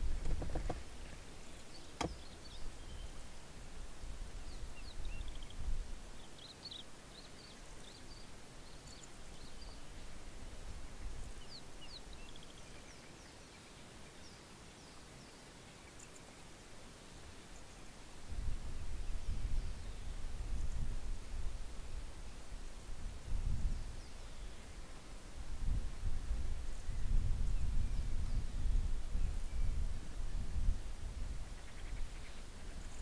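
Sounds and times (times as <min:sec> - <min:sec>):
small birds chirping: 0:00.0 - 0:18.2, 0:18.9 - 0:21.0, 0:22.1 - 0:25.2, 0:26.6 - 0:33.0.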